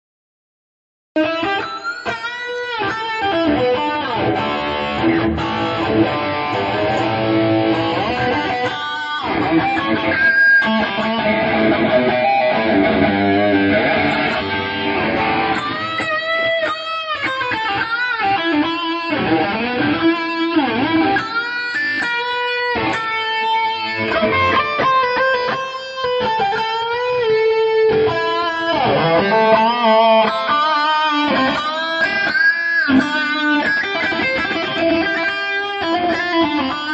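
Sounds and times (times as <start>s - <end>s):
electric guitar: 1.2s - 36.9s.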